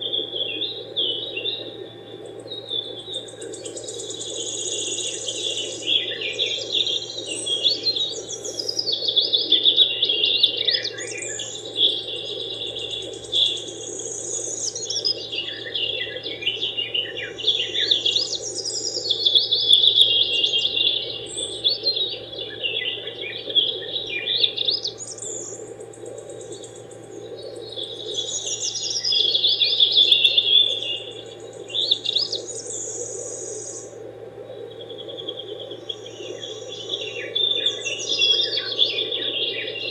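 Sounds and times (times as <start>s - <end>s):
birds chirping and trilling: 0.0s - 39.9s
steady low hum: 0.0s - 39.9s.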